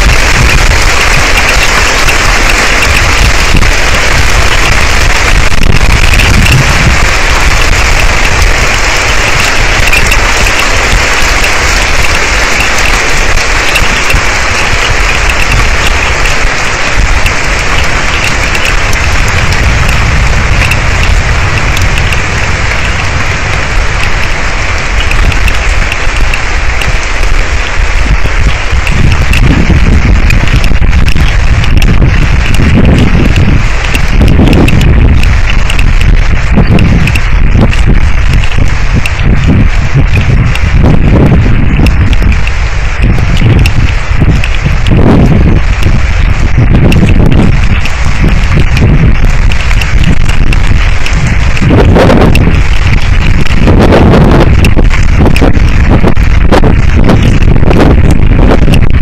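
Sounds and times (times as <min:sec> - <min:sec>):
heavy rain downpour: 0:00.0 - 0:59.0
low thunder rumble: 0:00.0 - 0:59.0.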